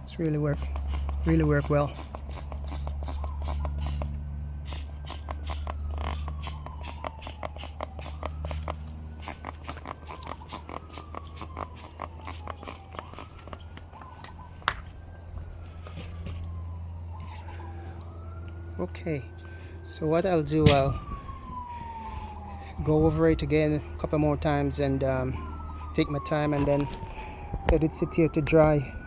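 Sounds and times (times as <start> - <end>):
distant siren: 0.0 - 29.0.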